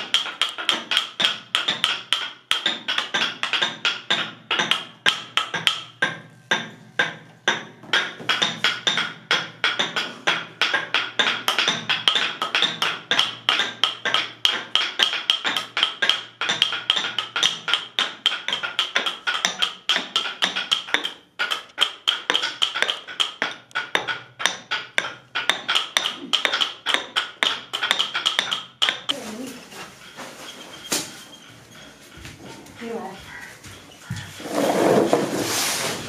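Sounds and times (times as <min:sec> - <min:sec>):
rapid wooden tapping: 0:00.0 - 0:06.3, 0:07.0 - 0:29.1, 0:31.6 - 0:35.4.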